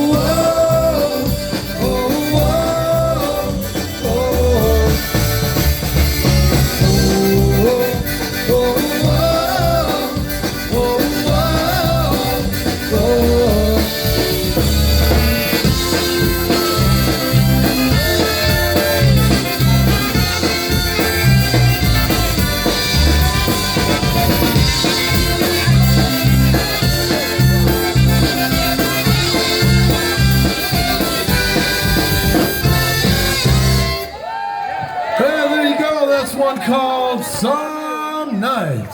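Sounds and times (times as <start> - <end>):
drum kit and bass beat: 0.0 - 34.1
polka band playing: 0.0 - 34.3.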